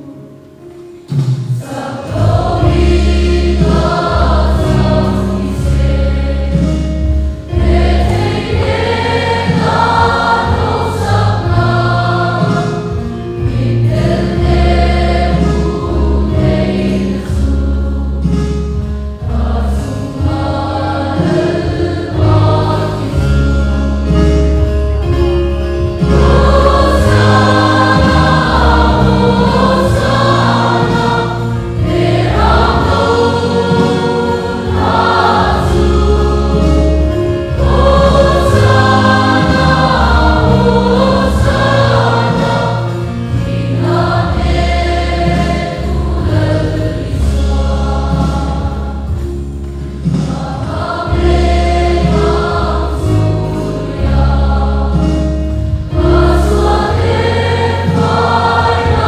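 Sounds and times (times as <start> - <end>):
choir singing a hymn: 0.0 - 59.0
drums: 0.0 - 59.0
keyboard accompaniment: 0.0 - 59.0.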